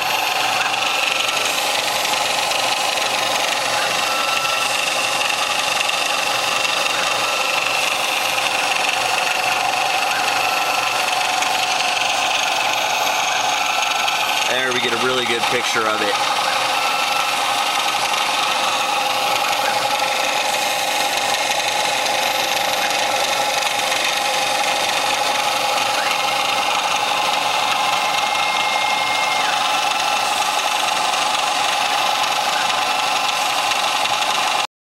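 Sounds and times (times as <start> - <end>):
mill spindle humming: 0.0 - 34.7.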